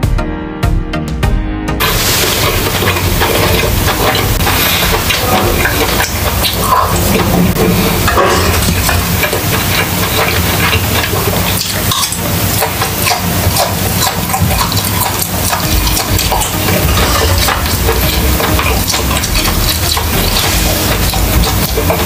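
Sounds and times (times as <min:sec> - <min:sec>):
wet crackly chewing: 0:01.8 - 0:22.0
fork clicking on grill: 0:02.2 - 0:22.0.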